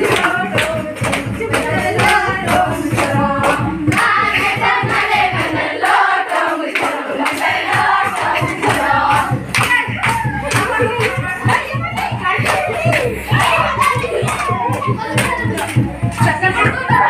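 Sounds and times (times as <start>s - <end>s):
girls singing together: 0.0s - 17.0s
rhythmic hand clapping: 0.0s - 17.0s.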